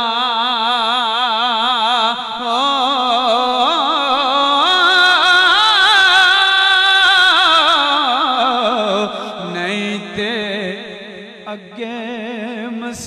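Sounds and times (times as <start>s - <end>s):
man singing with vibrato: 0.0s - 13.0s.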